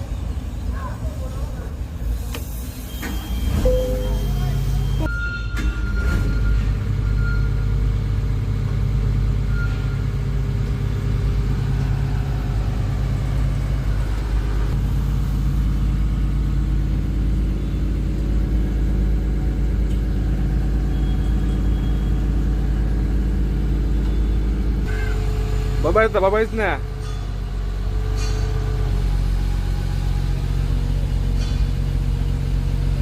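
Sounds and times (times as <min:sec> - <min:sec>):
excavator diesel engine running: 0:05.9 - 0:33.0.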